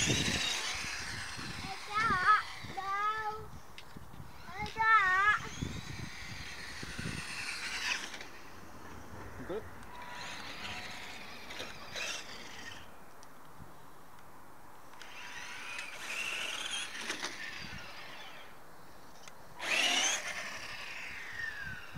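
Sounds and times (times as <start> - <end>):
electric motor and gearbox whining: 0.0 - 13.0, 14.9 - 18.6, 19.2 - 21.9.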